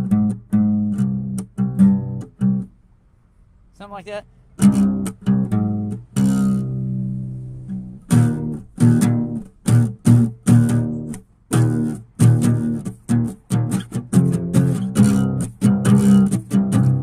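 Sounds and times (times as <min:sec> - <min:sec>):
plucked chords music: 0:00.0 - 0:02.7, 0:04.6 - 0:17.0.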